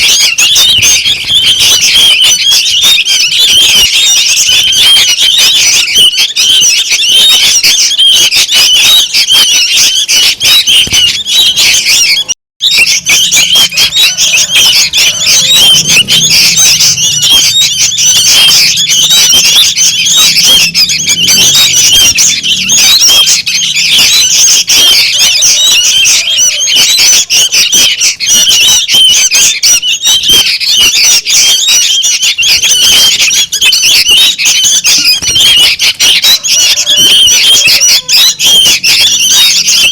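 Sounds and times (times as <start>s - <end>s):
young birds chattering chirps: 0.0s - 39.9s.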